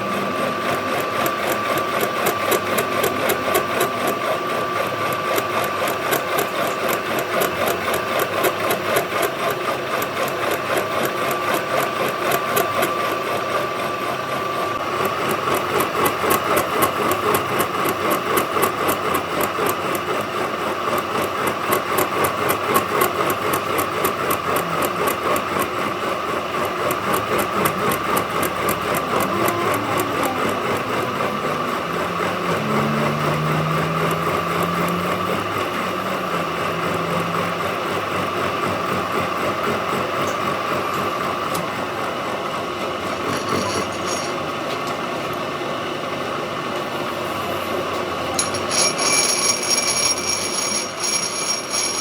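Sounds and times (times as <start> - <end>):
machine tool whining: 0.0 - 52.0.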